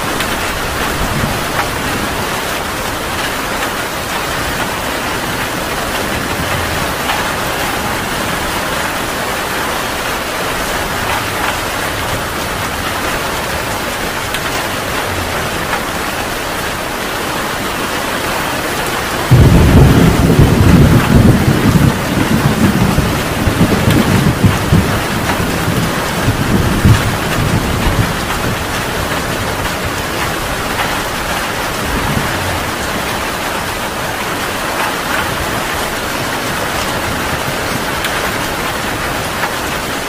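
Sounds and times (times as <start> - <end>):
heavy rain falling: 0.0 - 40.0
thunder rumbling: 0.0 - 40.0.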